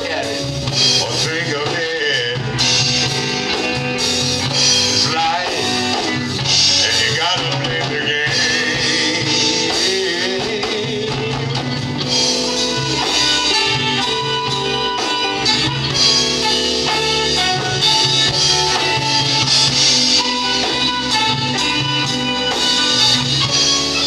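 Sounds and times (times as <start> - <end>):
live band playing soul ballad: 0.0 - 24.0.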